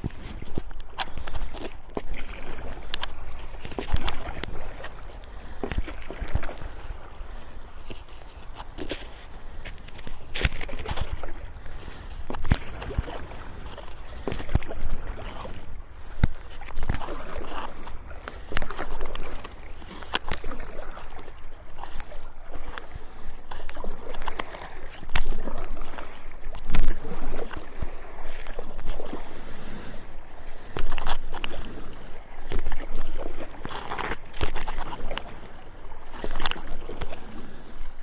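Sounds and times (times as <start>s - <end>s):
paddle strokes splashing in water: 0.0s - 38.0s
water lapping at board: 0.0s - 38.0s.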